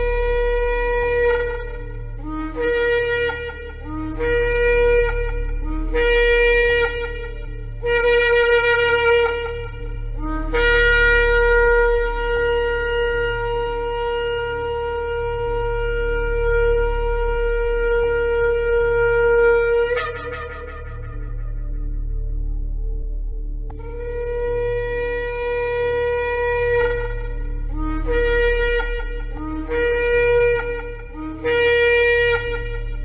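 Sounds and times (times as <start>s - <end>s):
ram's horn blasts: 0.0s - 22.2s, 23.7s - 33.0s
low hum: 0.0s - 33.0s.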